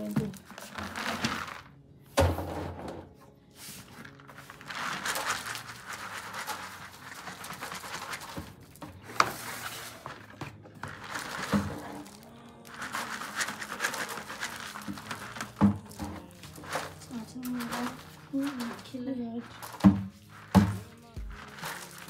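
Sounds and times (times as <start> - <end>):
wet grain rustling: 0.0 - 1.7, 3.5 - 22.0
plastic buckets knocking on tiles: 0.0 - 3.1, 7.2 - 22.0.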